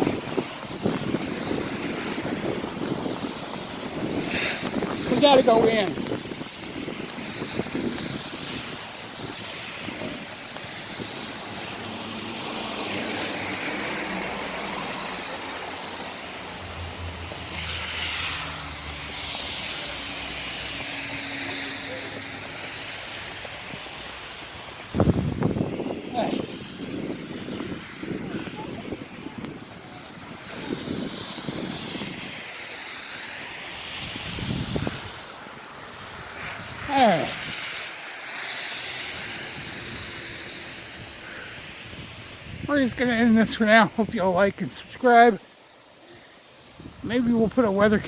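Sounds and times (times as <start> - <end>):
wind buffeting microphone: 0.0 - 32.8, 33.4 - 37.9, 38.9 - 45.3, 46.6 - 48.0.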